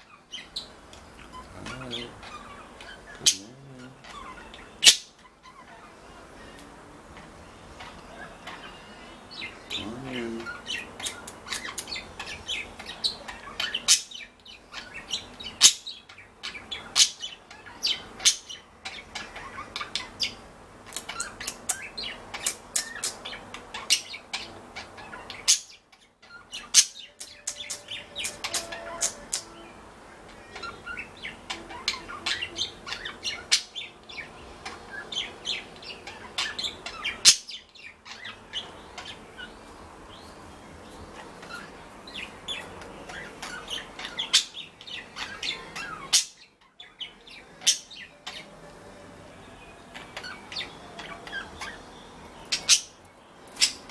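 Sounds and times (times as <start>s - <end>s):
budgerigars chirping: 0.0s - 53.9s.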